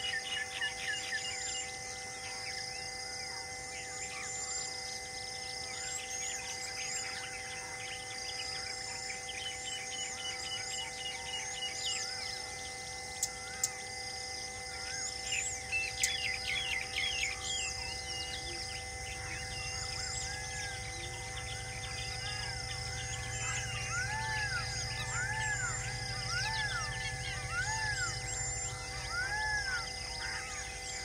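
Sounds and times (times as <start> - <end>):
birds chirping and whistling: 0.0 - 2.7, 4.0 - 31.0
insect-like drone: 0.0 - 31.0.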